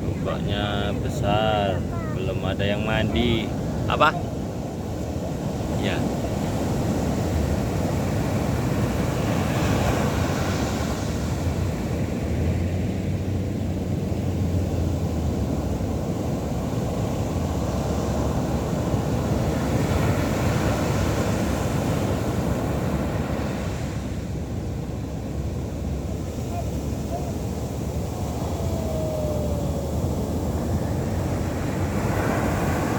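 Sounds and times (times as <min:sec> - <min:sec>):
ocean waves breaking: 0:00.0 - 0:32.9
wind rumbling on microphone: 0:00.0 - 0:32.9.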